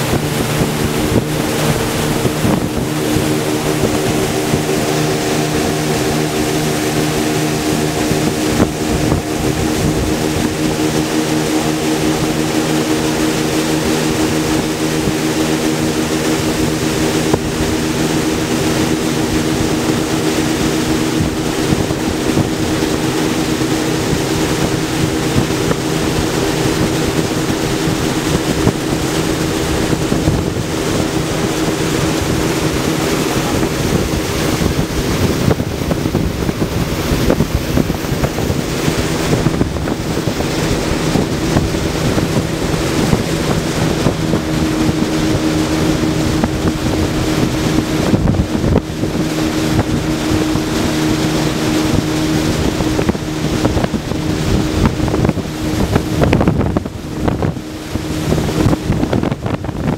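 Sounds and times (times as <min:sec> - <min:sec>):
motorboat engine droning: 0:00.0 - 0:59.9
water noise from hull: 0:00.0 - 0:59.9
wind rushing over microphone: 0:00.0 - 0:59.9.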